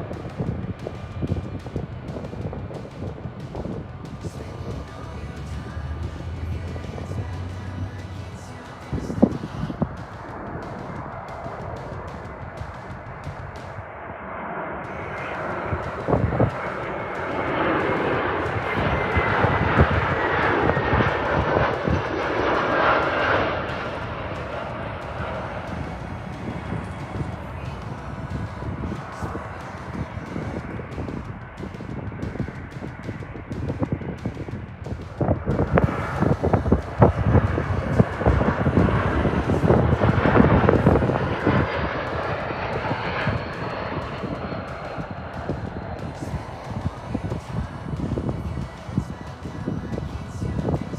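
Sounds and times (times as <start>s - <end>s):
airliner engines rushing: 0.0s - 50.9s
faint whine falling in pitch: 0.0s - 50.9s
wind buffeting microphone: 0.0s - 50.9s.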